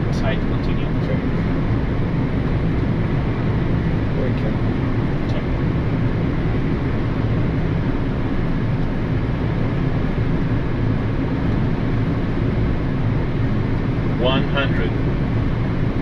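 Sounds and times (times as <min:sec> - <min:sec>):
airflow and engine drone: 0:00.0 - 0:16.0.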